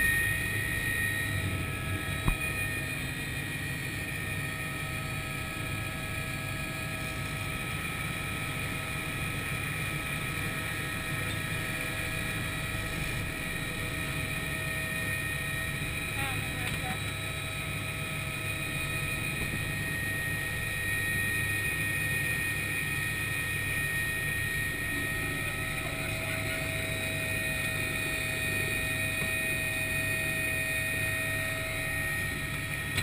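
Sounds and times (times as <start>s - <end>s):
helicopter rotor drone: 0.0s - 33.0s
helicopter turbine whine: 0.0s - 33.0s.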